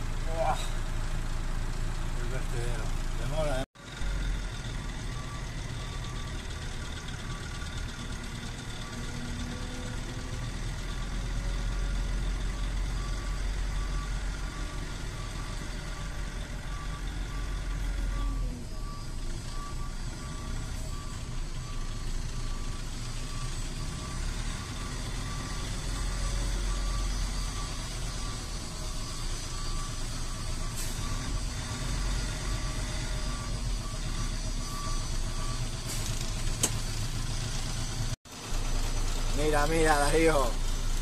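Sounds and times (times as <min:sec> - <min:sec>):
heavy vehicle engine rumbling: 0:00.0 - 0:41.0
reversing alarm beeping: 0:03.3 - 0:38.2.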